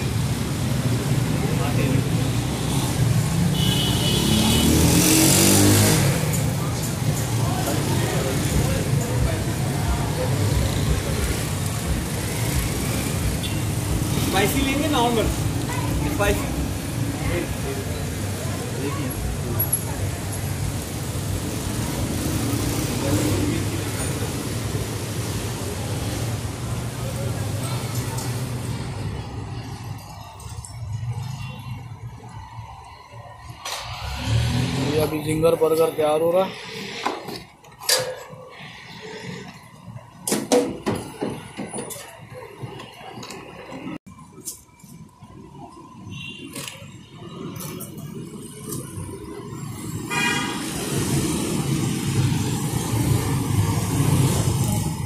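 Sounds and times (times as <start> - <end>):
road traffic engine hum: 0.0 - 55.0.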